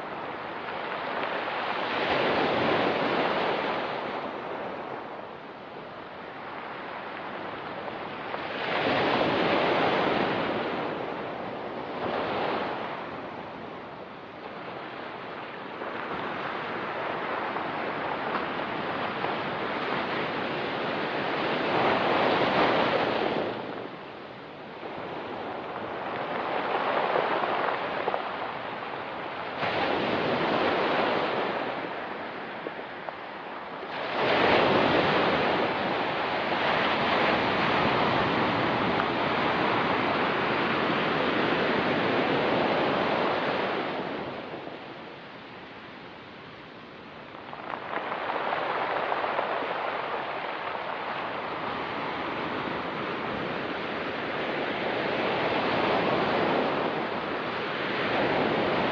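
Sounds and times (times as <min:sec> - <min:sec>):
waves washing on pebble beach: 0:00.0 - 0:46.2, 0:46.9 - 0:58.9.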